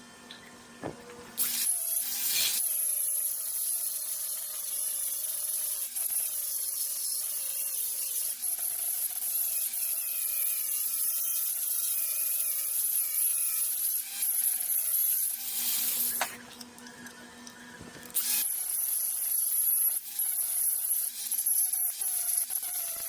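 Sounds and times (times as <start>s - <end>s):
power tool whining: 1.4s - 23.0s.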